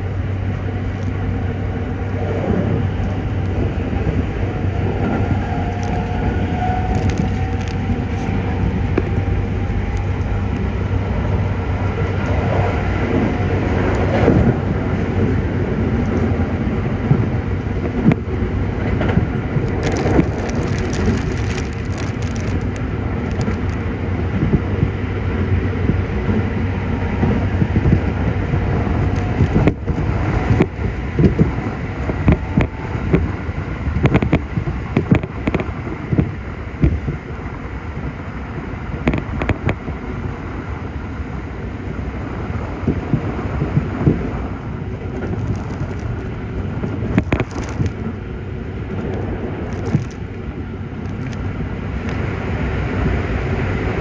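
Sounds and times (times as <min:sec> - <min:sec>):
heavy rain against train: 0:00.0 - 0:54.0
train wheels on rails: 0:00.0 - 0:54.0.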